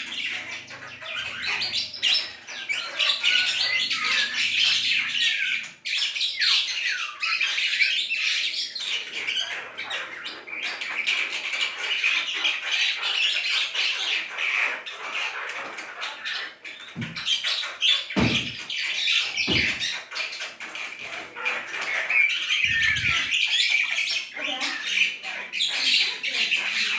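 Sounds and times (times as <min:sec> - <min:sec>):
starling chattering and squawking: 0:00.0 - 0:26.9.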